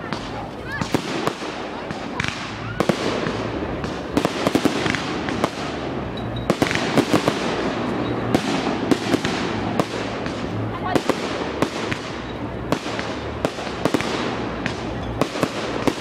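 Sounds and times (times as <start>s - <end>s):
crackling hiss of fireworks: 0.0s - 16.0s
fireworks bangs: 0.0s - 16.0s.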